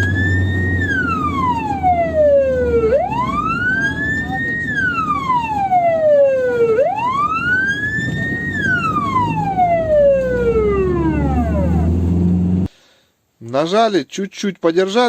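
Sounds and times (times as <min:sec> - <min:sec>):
siren wail: 0:00.0 - 0:12.7.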